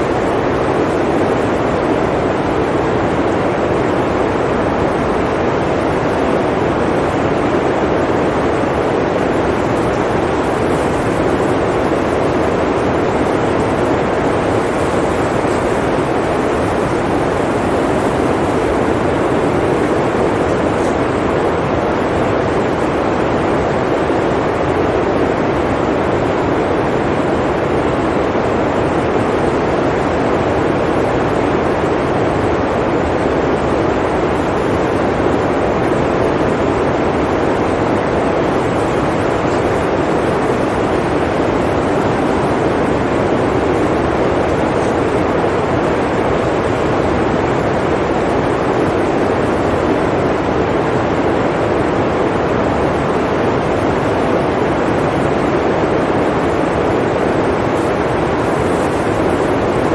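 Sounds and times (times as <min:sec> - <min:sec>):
blizzard wind blowing: 0:00.0 - 0:59.9.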